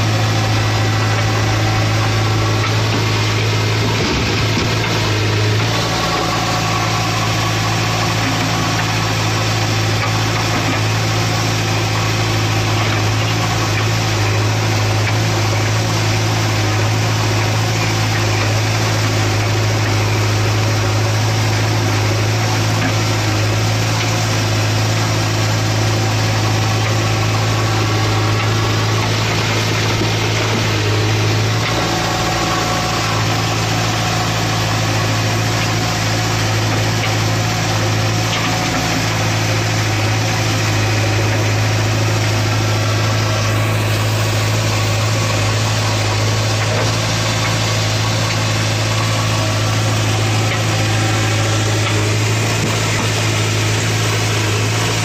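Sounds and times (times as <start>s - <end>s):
backhoe digging soil: 0.0s - 55.0s
diesel engine running: 0.0s - 55.0s.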